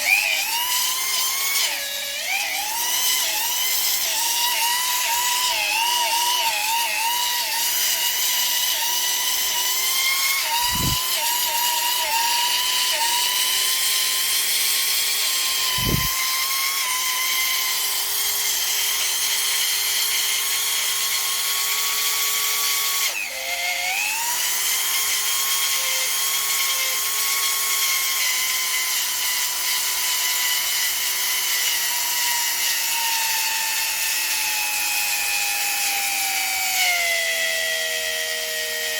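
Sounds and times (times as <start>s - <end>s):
rotary tool motor whining: 0.0s - 38.9s.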